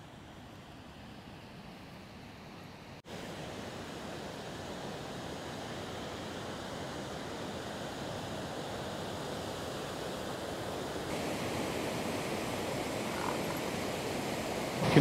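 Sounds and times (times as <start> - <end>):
river water rushing over weir: 0.1 - 15.0.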